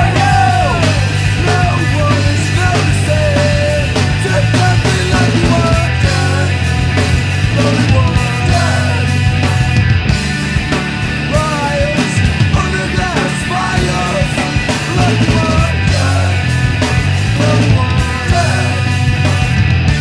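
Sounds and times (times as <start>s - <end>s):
bass guitar: 0.0s - 20.0s
drums playing: 0.0s - 20.0s
electric guitars: 0.0s - 20.0s.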